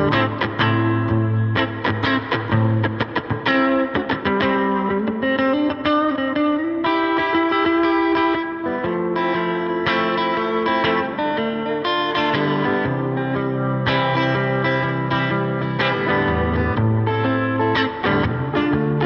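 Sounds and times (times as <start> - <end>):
electric guitar through effects: 0.0 - 19.0.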